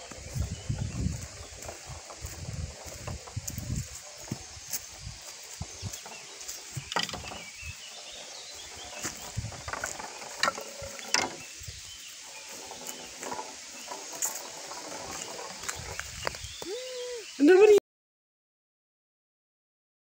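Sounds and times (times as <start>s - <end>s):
ball rolling on wooden planks: 0.0s - 16.7s.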